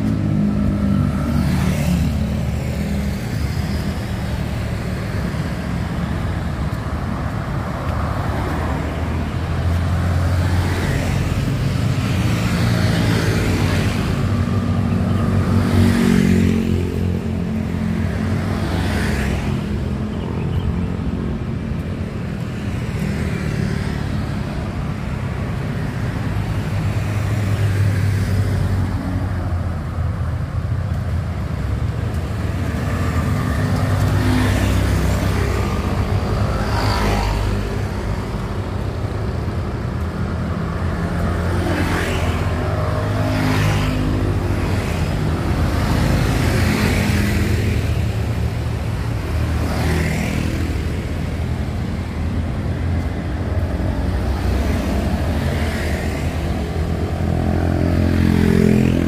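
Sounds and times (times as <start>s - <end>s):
vehicles passing on street: 0.0s - 59.0s.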